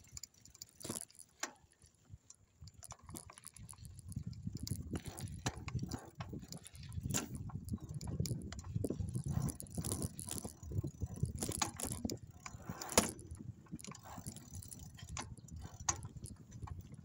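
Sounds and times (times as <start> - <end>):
bicycle rattling over rough ground: 0.0 - 17.0.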